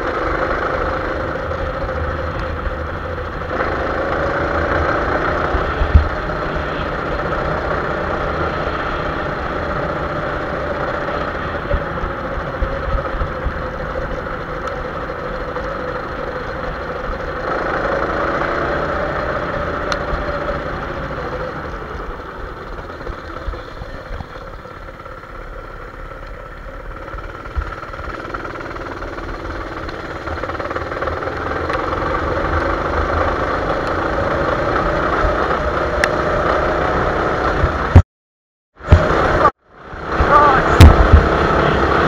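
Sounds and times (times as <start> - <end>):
motor droning: 0.0 - 38.0
rumble from bumpy ground: 0.0 - 38.0, 38.8 - 42.0.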